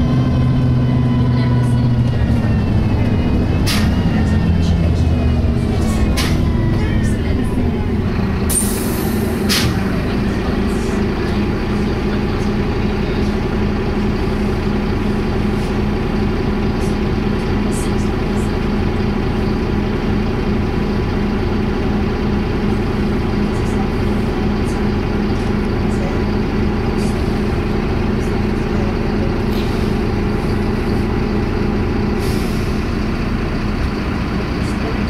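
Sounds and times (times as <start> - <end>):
bus engine drone: 0.0 - 35.0.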